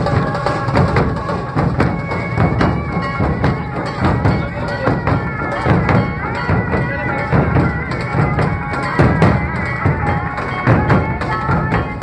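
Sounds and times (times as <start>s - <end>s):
deep drum beats: 0.0s - 12.0s
held reedy tone: 0.0s - 12.0s.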